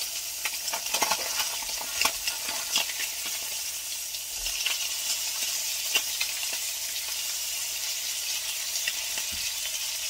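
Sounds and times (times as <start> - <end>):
fish fillets sizzling in a pan: 0.0 - 10.0.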